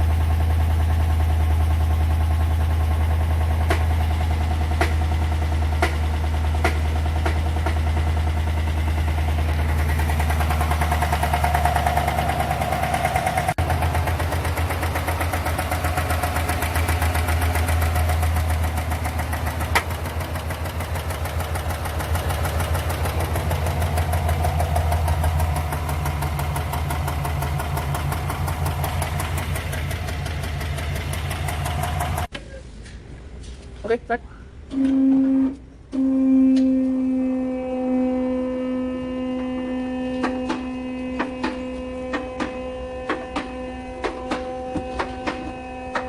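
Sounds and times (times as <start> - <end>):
fast steady engine ticking: 0.0 - 32.3, 39.2 - 46.0
engine idling: 0.0 - 33.7, 34.5 - 46.0.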